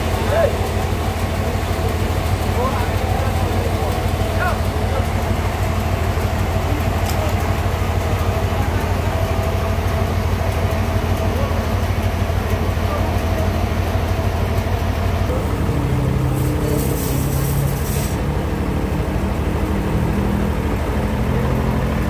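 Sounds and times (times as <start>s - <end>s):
sawmill engine hum: 0.0s - 22.0s.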